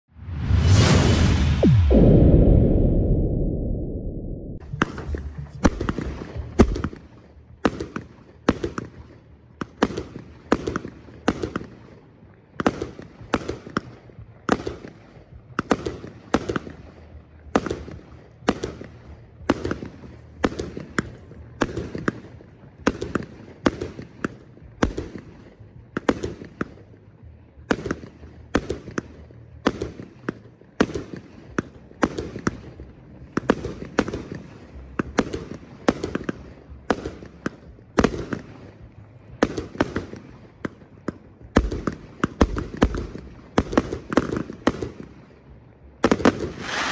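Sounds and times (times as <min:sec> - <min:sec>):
fireworks cake firing sharp bangs: 0:04.6 - 0:27.0, 0:27.6 - 0:45.4, 0:46.0 - 0:46.9.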